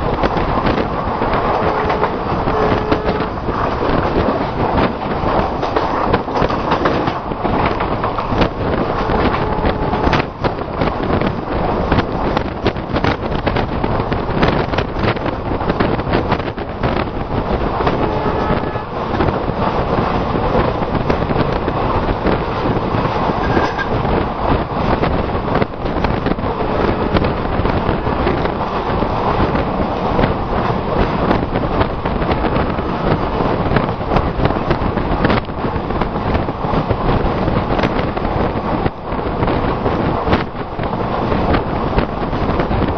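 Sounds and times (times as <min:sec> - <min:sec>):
express train rushing on rails: 0:00.0 - 0:42.9
wind buffeting microphone: 0:00.0 - 0:42.9.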